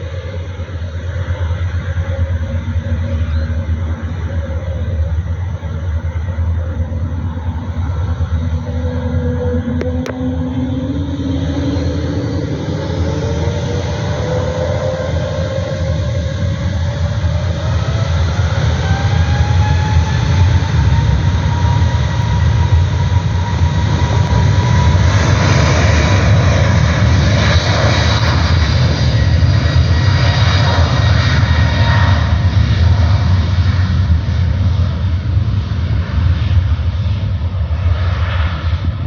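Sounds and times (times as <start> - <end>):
deep jet rumble: 0.0 - 39.0
jet engine whine rising: 0.0 - 39.0.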